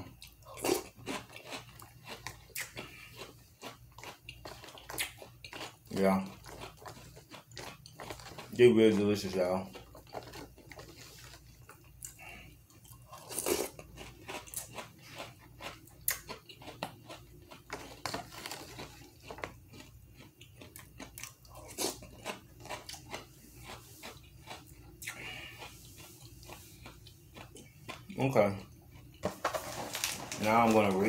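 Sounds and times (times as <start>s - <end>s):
person crunching cereal: 0.0s - 31.0s.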